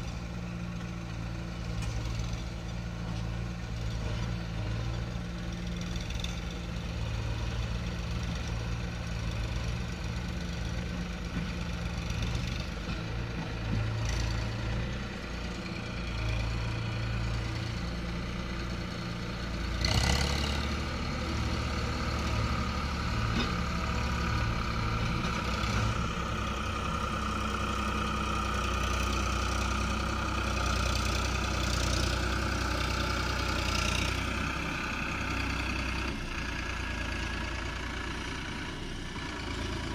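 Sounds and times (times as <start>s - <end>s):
diesel engines idling: 0.0s - 39.9s.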